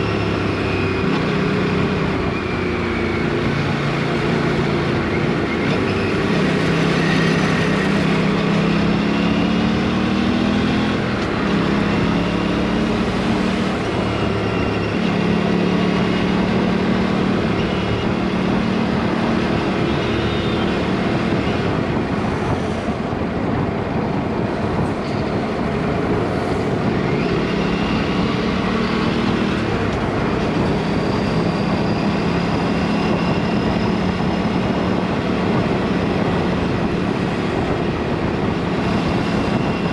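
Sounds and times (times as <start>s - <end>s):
rushing wind noise: 0.0s - 39.9s
motorcycle engine shifting gears: 0.1s - 23.5s, 24.3s - 39.9s.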